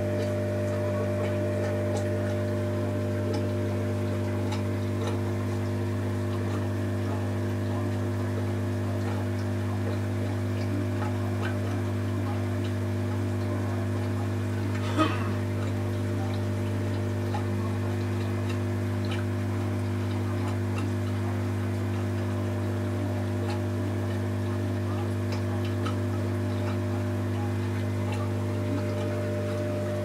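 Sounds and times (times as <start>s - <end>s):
air pump humming: 0.0s - 30.0s
bubbles ticking: 0.0s - 30.0s.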